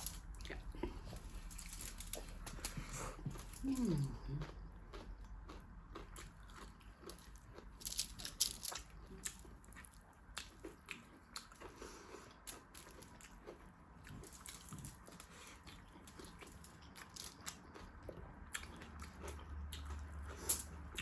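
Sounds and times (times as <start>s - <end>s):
chewing and biting: 0.0s - 21.0s.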